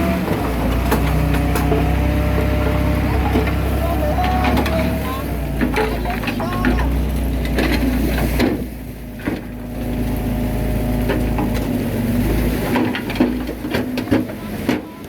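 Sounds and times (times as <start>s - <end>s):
clanks and knocks of tracks: 0.0s - 9.6s, 11.0s - 15.0s
bulldozer diesel engine rumbling: 0.0s - 15.0s.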